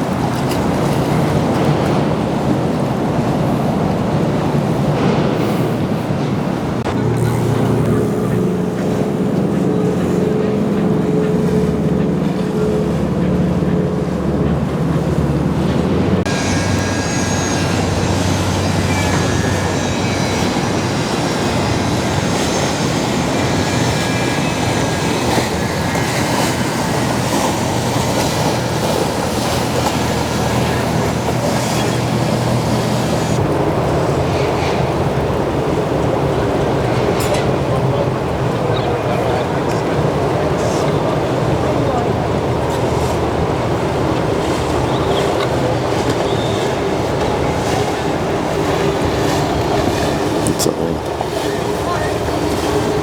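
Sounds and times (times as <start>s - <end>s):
motorboat engines running: 0.0s - 53.0s
rushing water: 0.0s - 53.0s
wind: 0.0s - 53.0s.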